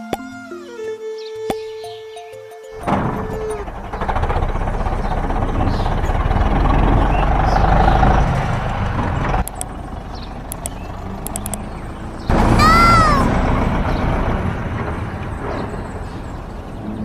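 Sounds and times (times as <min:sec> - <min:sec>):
heavy vehicle engine rumbling: 0:02.6 - 0:17.0.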